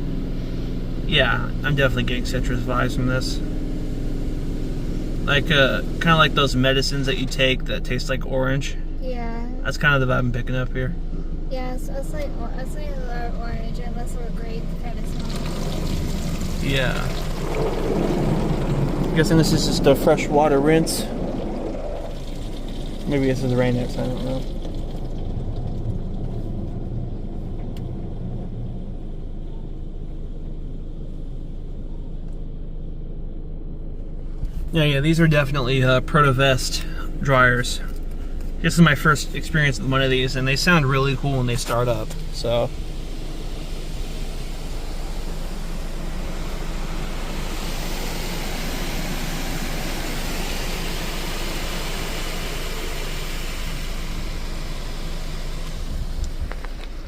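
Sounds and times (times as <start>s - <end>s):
car wash rinse low rumble: 0.0s - 57.0s.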